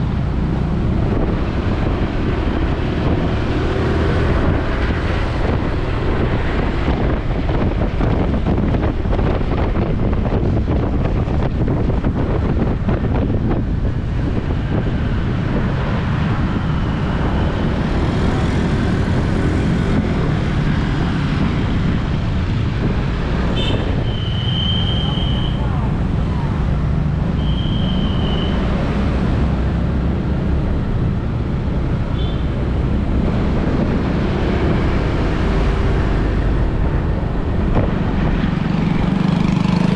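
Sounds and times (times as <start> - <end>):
wind buffeting microphone: 0.0 - 24.4, 25.6 - 39.9
vehicle and road noise: 0.0 - 39.9.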